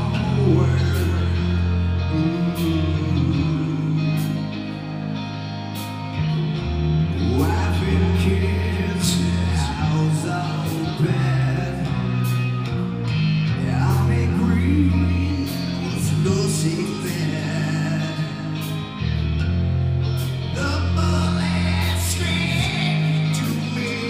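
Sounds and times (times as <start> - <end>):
person singing: 0.0 - 19.3, 20.3 - 24.0
electric guitars: 0.0 - 24.0
heavy bass line: 0.0 - 24.0.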